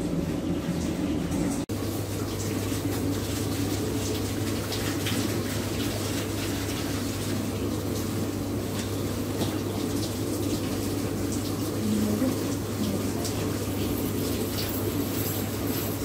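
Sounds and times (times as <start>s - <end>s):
hands washing with splashing: 0.0s - 16.0s
tap water running into metal basin: 0.0s - 16.0s.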